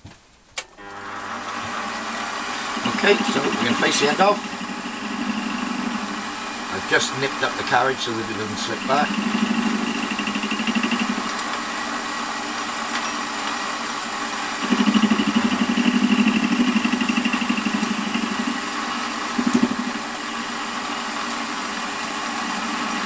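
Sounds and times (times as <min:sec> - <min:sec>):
bench lathe running: 0:00.8 - 0:23.0.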